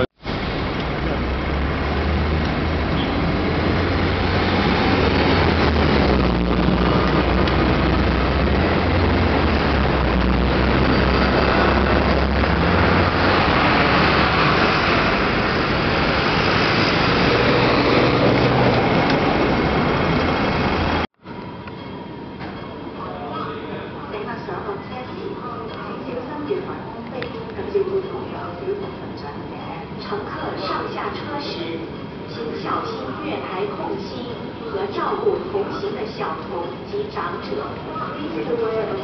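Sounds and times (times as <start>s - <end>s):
city street traffic: 0.0s - 39.0s.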